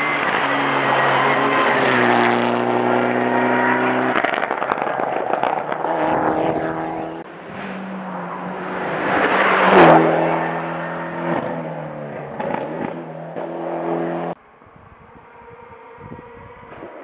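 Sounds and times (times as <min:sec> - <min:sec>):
rally car engine passing at speed: 0:00.0 - 0:14.4.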